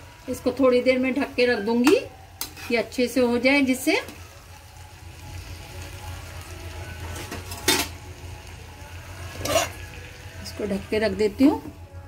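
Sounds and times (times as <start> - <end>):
vegetables sizzling faintly: 0.0 - 12.0.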